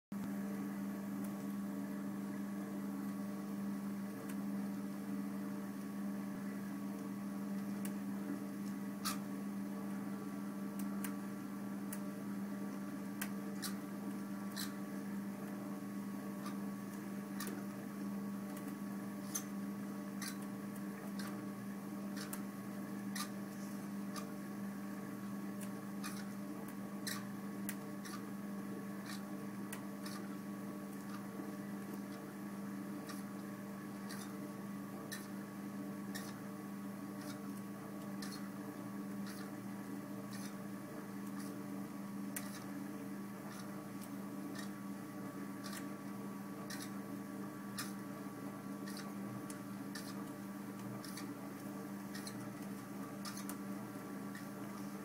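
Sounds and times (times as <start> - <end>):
electrical hum: 0.2 - 55.0.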